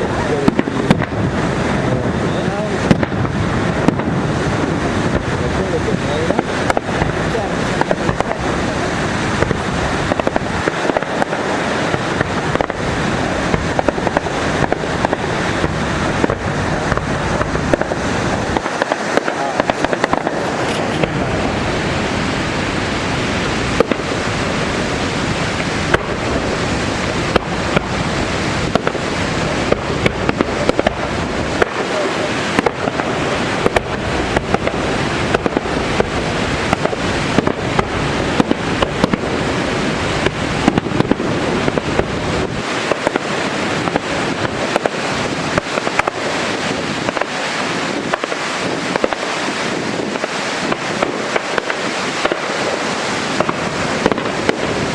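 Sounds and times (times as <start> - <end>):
fireworks bangs and crackles: 0.0 - 54.9
steady roar of noise: 0.0 - 54.9.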